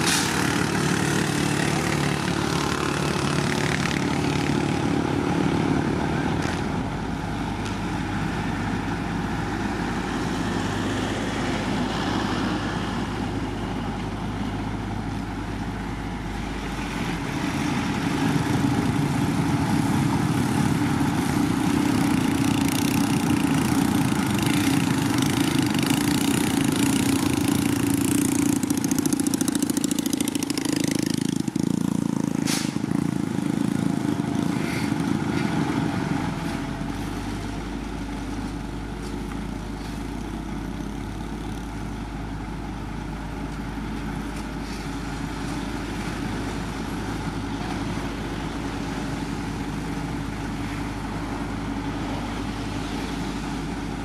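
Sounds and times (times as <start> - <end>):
heavy machinery engine running: 0.0 - 54.0.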